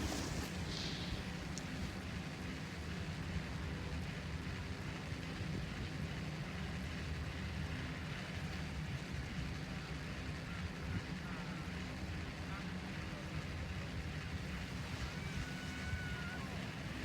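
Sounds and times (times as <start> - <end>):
constant wash of noise: 0.0 - 17.0.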